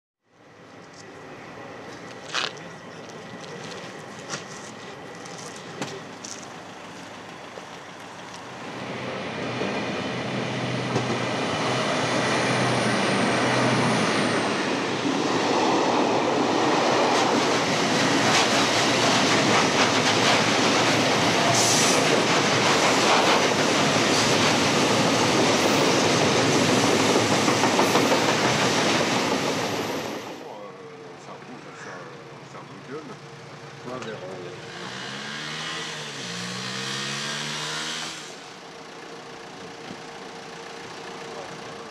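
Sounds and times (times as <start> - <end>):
freight train rumbling past: 0.5 - 38.8.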